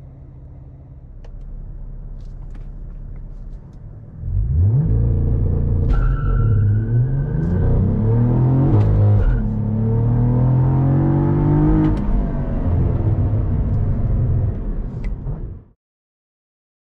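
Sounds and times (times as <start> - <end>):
car engine at full throttle: 0.0 - 15.2.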